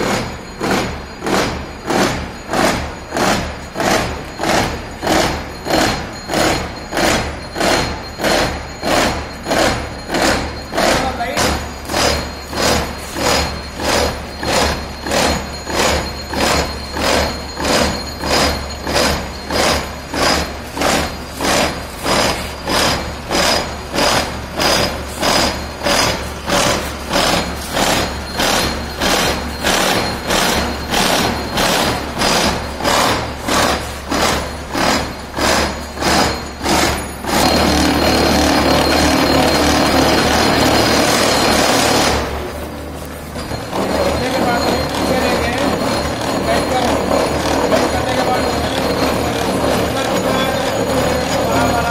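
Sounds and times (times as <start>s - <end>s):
milling cutter cutting metal: 0.0s - 51.9s.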